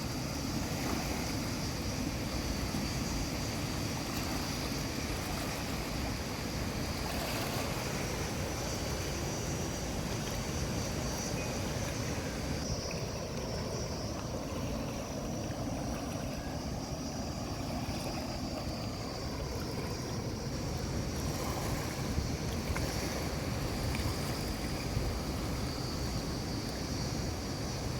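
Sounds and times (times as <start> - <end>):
flowing water rushing: 0.0 - 27.9.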